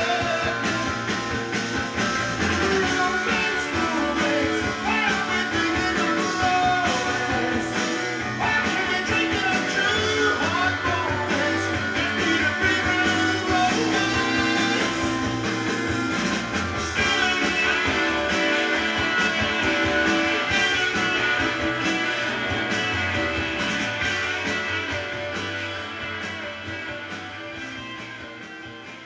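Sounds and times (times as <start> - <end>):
rock song with guitar and singing: 0.0 - 29.0.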